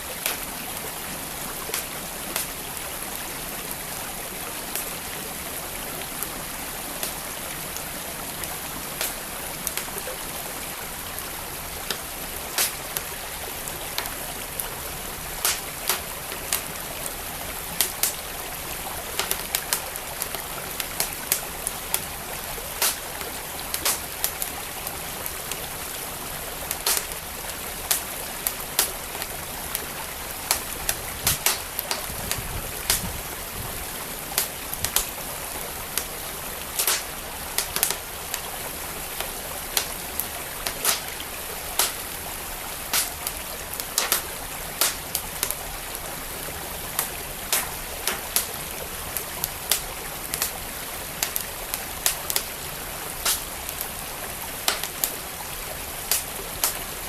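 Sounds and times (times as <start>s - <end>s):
stream flowing: 0.0s - 57.0s
wood fire crackling and popping: 0.1s - 3.0s, 7.0s - 46.0s, 46.8s - 54.0s, 54.6s - 57.0s.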